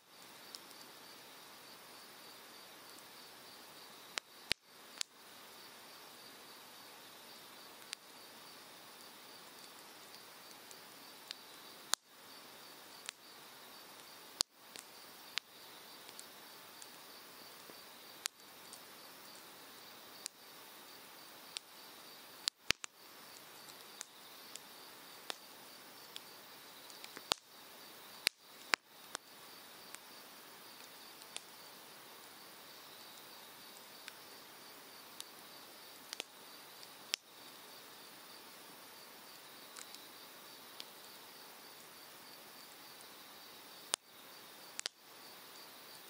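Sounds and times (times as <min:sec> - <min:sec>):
firewood crackling and popping: 0:00.1 - 0:42.0, 0:43.7 - 0:45.1.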